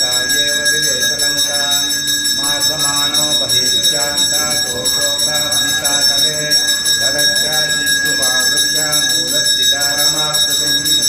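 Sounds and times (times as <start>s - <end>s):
temple bell rung rapidly: 0.0s - 11.0s
voices chanting mantras: 0.0s - 11.0s.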